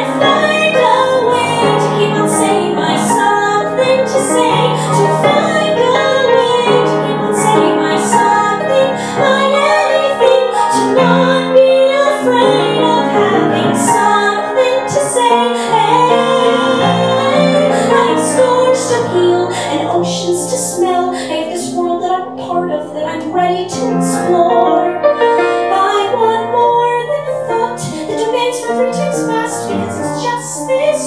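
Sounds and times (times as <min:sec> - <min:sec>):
piano accompaniment: 0:00.0 - 0:31.0
woman singing: 0:00.0 - 0:31.0.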